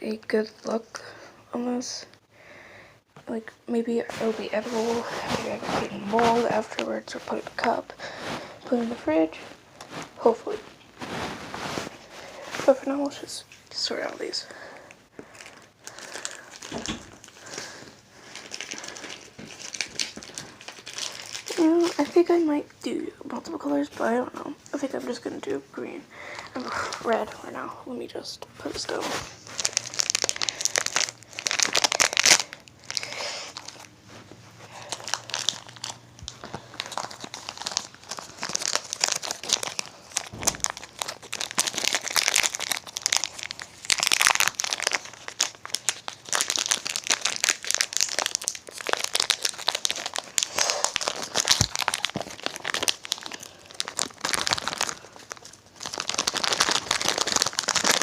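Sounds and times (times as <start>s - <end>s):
plastic wrappers crinkling and tearing: 4.1s - 25.6s, 26.2s - 58.0s.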